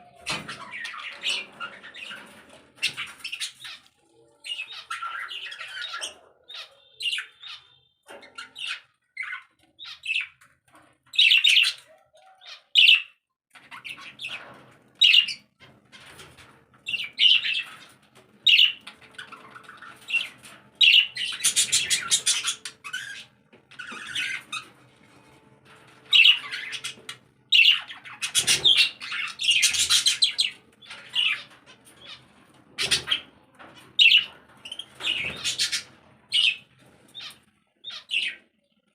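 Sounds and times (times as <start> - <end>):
pet birds chirping and squawking: 0.0 - 38.9.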